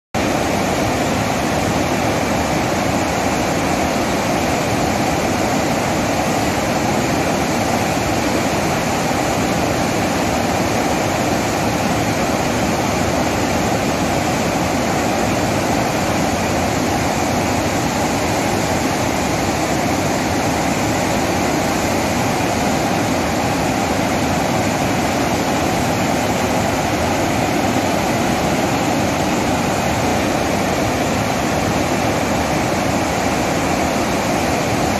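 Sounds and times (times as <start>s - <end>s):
water thundering through spillway: 0.2s - 34.9s.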